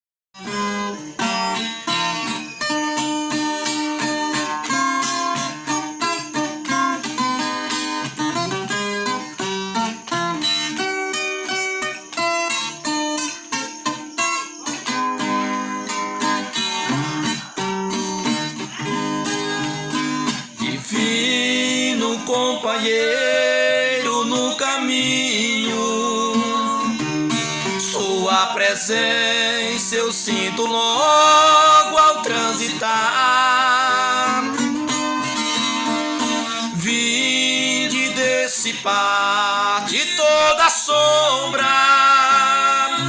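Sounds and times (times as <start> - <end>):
plucked guitar melody with strummed chords: 0.4 - 43.0.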